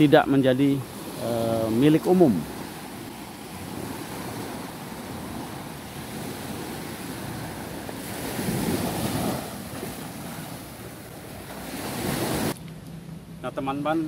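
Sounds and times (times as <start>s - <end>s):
small waves breaking on beach: 0.0s - 12.6s
wind rumbling on microphone: 0.0s - 12.6s.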